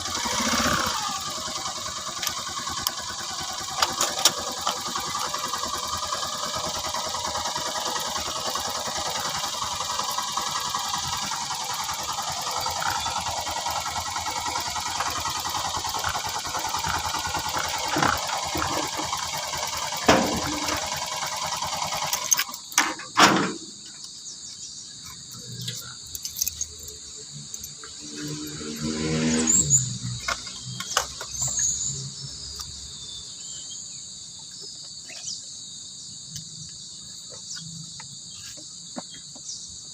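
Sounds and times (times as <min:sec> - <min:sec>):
motorcycle engine running: 0:00.0 - 0:22.8, 0:23.8 - 0:33.7
crickets chirping: 0:00.0 - 0:39.9.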